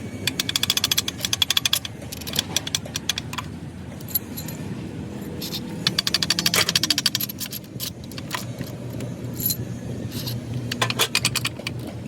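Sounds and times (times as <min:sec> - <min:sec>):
metallic clicking of hand tools: 0:00.2 - 0:04.6, 0:05.2 - 0:12.0.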